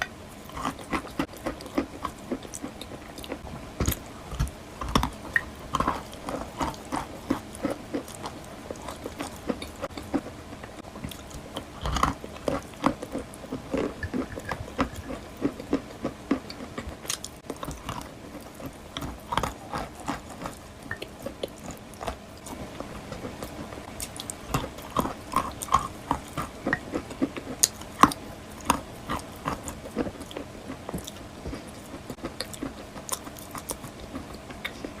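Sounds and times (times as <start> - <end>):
chewing crunchy chalk: 0.4 - 35.0.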